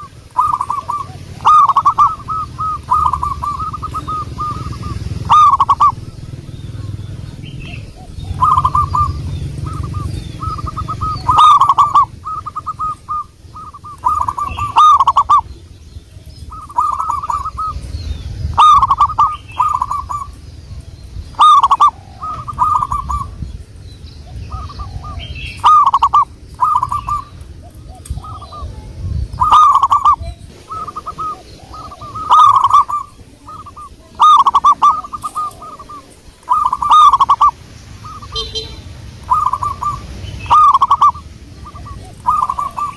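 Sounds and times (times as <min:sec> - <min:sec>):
dove cooing: 0:00.0 - 0:23.6, 0:24.2 - 0:42.9.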